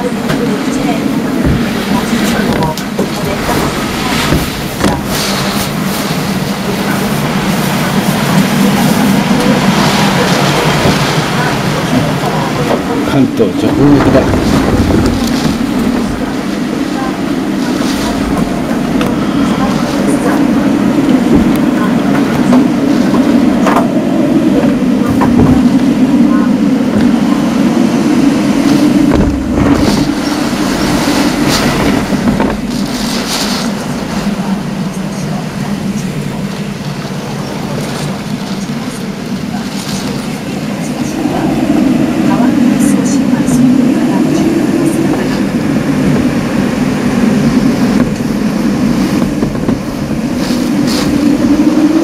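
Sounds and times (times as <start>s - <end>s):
power lines droning: 0.0s - 52.0s
wind and rain roaring: 0.0s - 52.0s.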